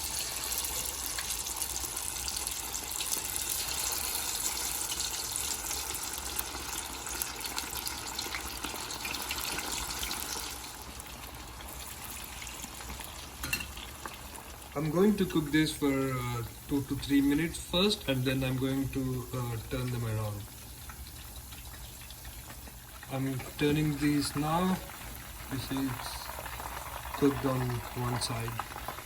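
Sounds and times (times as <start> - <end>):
chicken wings sizzling in oil: 0.0 - 29.0.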